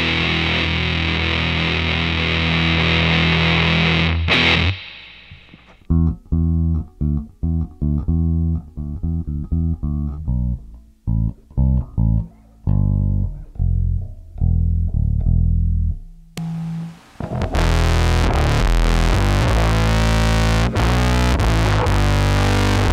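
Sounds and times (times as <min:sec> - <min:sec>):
electric bass guitar riff: 0:00.0 - 0:22.9.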